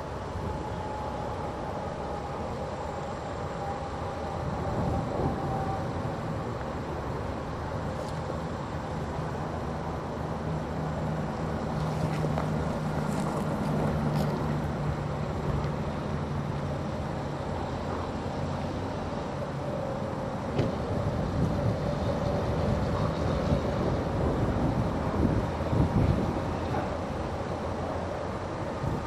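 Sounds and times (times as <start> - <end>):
diesel locomotive drone: 0.0 - 29.0
high steady whine: 0.0 - 29.0.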